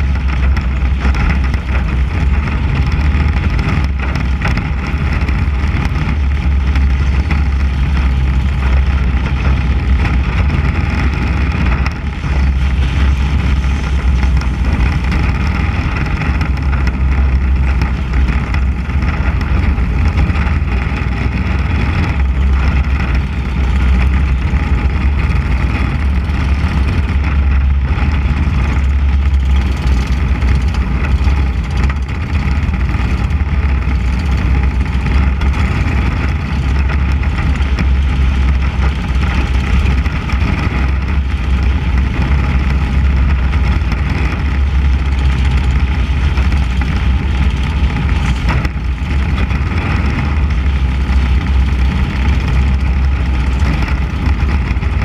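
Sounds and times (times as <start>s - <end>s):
race car engine running hard: 0.0s - 55.0s
rumble of rushing air: 0.0s - 55.0s.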